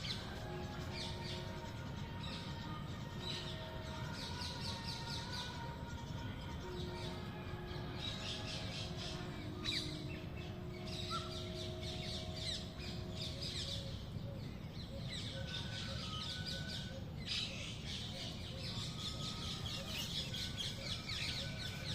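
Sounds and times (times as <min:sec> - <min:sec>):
harsh bird calls: 0:03.4 - 0:21.9.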